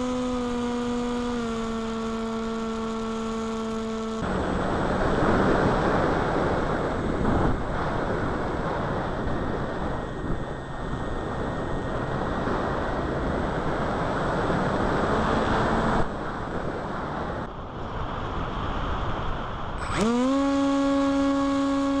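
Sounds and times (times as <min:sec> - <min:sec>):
steady hum rising in pitch: 0:00.0 - 0:22.0
wind on microphone: 0:00.0 - 0:22.0.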